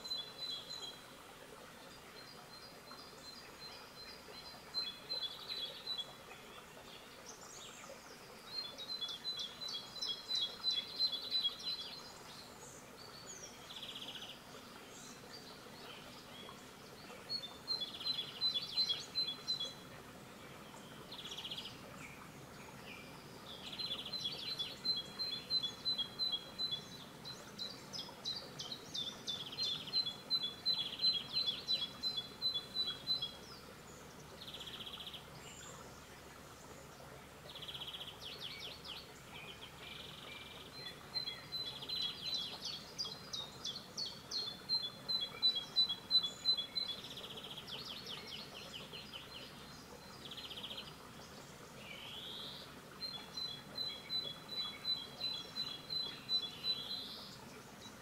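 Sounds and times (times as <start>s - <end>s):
small forest stream murmuring: 0.0s - 58.0s
songbirds singing: 0.0s - 58.0s.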